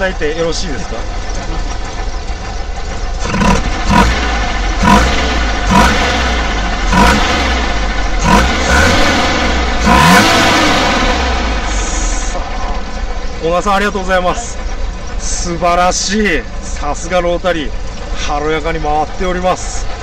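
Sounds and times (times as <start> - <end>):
rotary engine idling and revving: 0.0 - 20.0.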